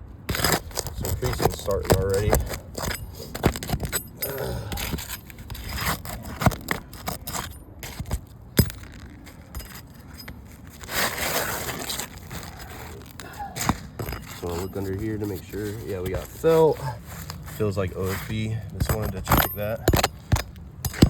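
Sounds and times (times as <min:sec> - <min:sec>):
metal tool scraping shingles: 0:00.3 - 0:21.0.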